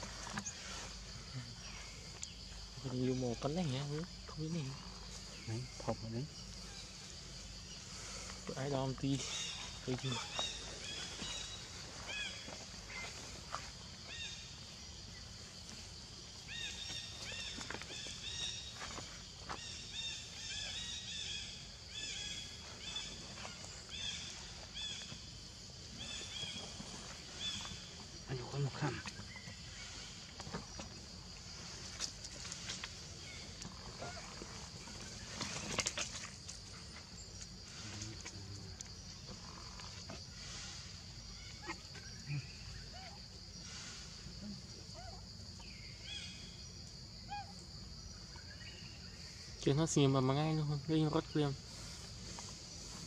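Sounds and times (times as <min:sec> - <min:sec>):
faint chirping calls: 0:00.0 - 0:53.0.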